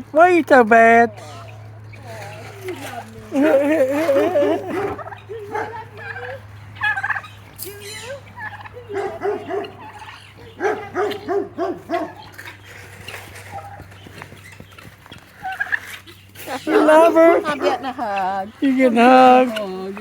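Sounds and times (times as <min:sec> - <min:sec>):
turkey gobbling: 0:01.1 - 0:20.0.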